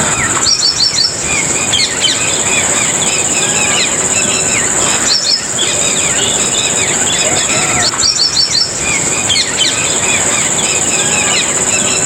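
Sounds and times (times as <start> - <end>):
high-pitched insect drone: 0.0 - 12.0
small birds chirping: 0.0 - 12.0.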